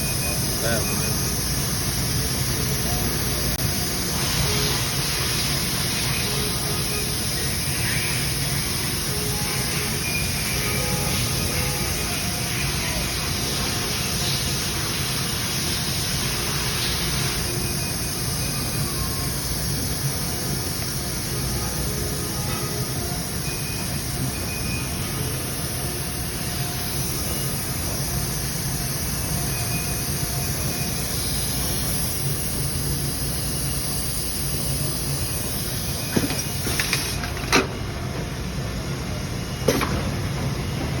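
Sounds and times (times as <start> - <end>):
machining center running: 0.0 - 41.0.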